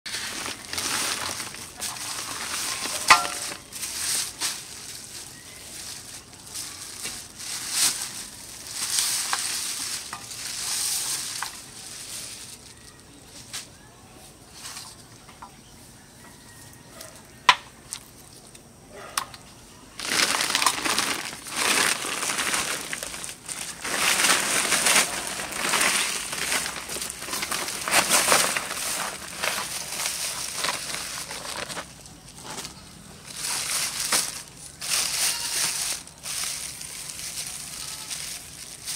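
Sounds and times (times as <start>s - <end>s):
plastic bags rustling: 0.1s - 13.9s, 19.9s - 38.9s.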